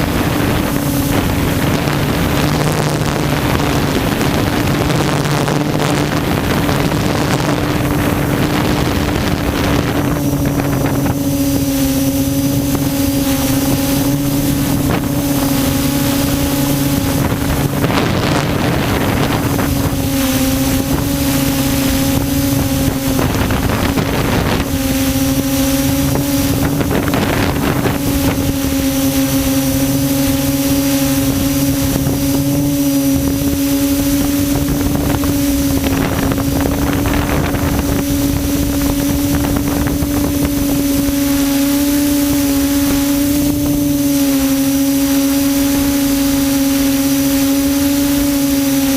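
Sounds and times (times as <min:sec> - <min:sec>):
quadcopter motors humming: 0:00.0 - 0:48.9
wind rushing over microphone: 0:00.0 - 0:48.9.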